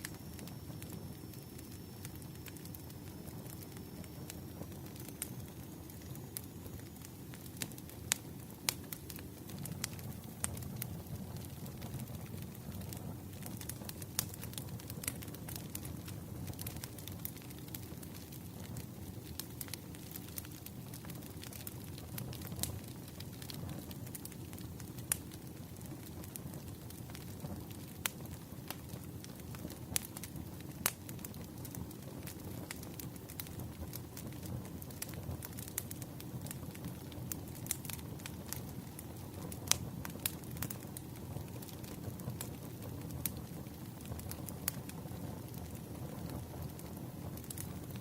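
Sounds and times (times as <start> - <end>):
sharp fire pops: 0.0 - 48.0
wood fire crackling: 0.0 - 48.0.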